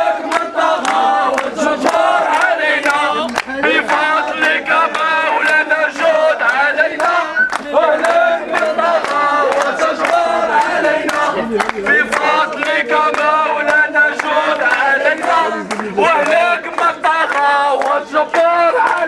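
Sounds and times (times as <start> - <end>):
crowd chanting in unison: 0.0 - 19.0
man's voice through megaphone: 0.0 - 19.0
hand claps: 0.2 - 19.0.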